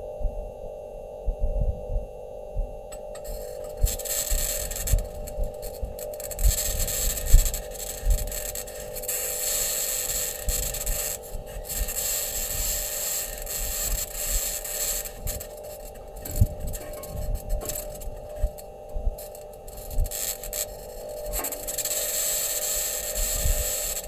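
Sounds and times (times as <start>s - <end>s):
scraping grinding hiss: 2.9s - 24.0s.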